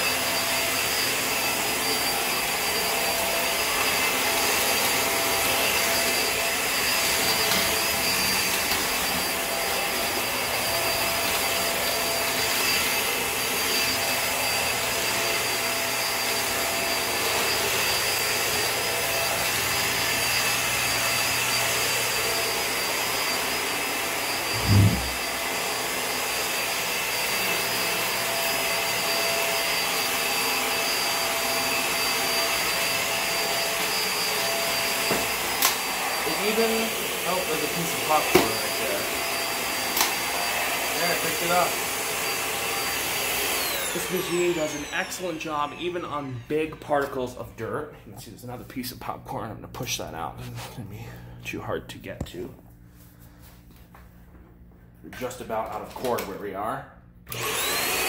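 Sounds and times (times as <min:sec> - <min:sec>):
upright vacuum running: 0:00.0 - 0:48.1, 0:57.3 - 0:58.0.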